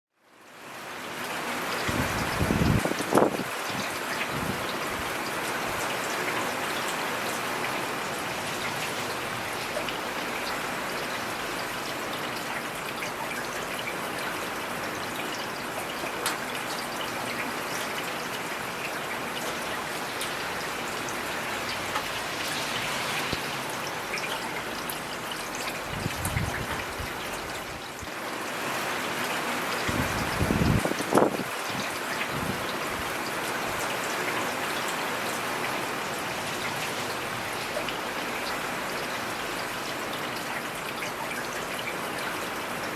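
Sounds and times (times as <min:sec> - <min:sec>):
heavy rain: 0:00.2 - 0:42.9.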